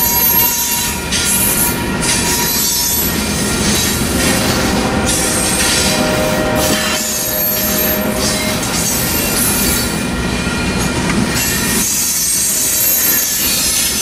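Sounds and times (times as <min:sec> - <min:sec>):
freight train wheels rolling: 0:00.0 - 0:14.0
high wheel squealing: 0:00.0 - 0:14.0.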